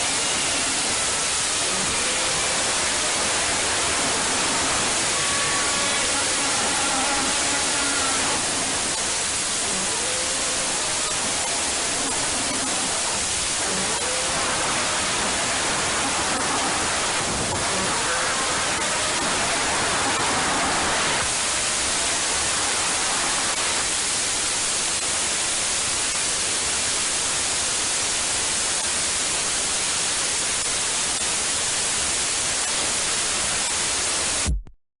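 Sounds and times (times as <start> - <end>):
loud static hiss: 0.0 - 34.7.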